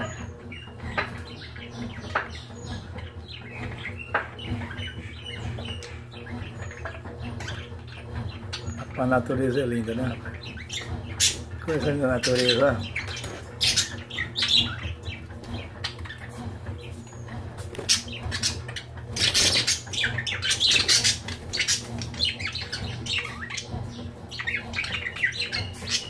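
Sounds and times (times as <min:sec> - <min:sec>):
budgerigars chattering and squawking: 0:00.0 - 0:26.0.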